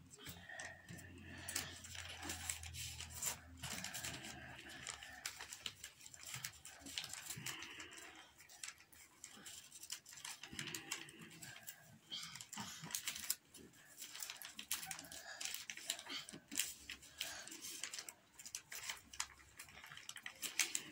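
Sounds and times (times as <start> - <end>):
paper rustling and crinkling: 0.1 - 20.9.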